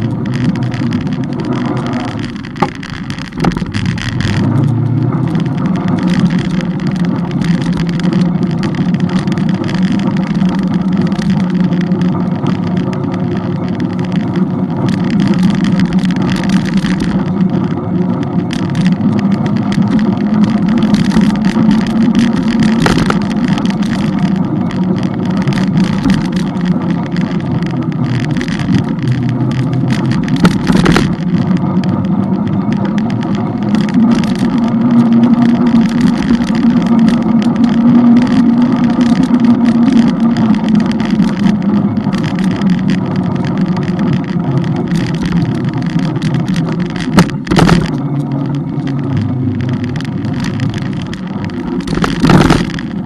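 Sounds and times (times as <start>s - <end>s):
motorbike engine running: 0.0s - 53.0s
rough crackling noise: 0.0s - 53.0s.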